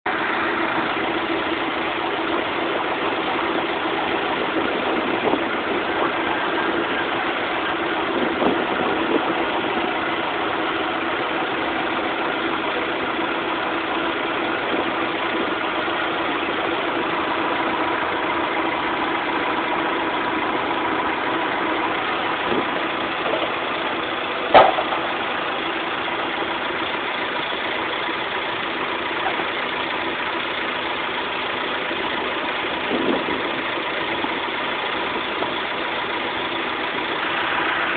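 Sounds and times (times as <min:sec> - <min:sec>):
engine running steadily: 0:00.0 - 0:37.9
engine knocks: 0:00.1 - 0:37.9.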